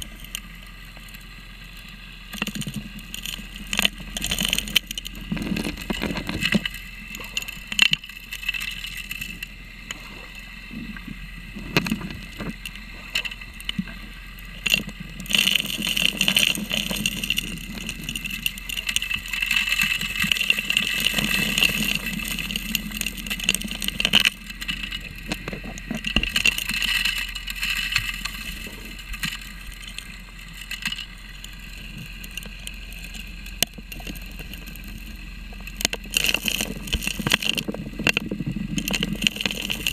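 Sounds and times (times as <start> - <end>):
dredge hiss and hum: 0.0 - 39.9.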